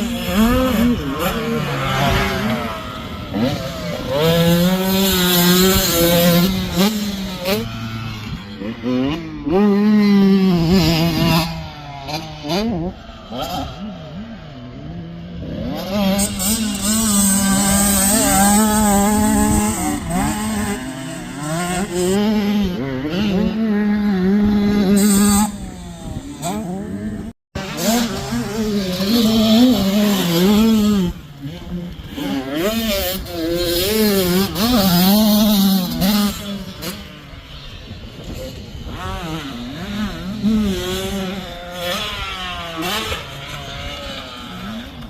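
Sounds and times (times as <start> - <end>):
two-stroke dirt bike engine revving: 0.0 - 45.0.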